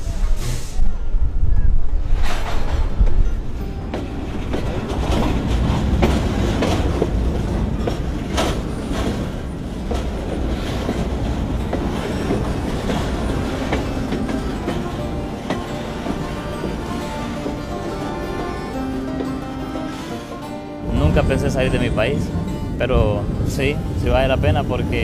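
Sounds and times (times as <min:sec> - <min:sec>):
train wagons rumbling: 0:00.0 - 0:25.0
wheels and couplings clanking: 0:02.2 - 0:25.0.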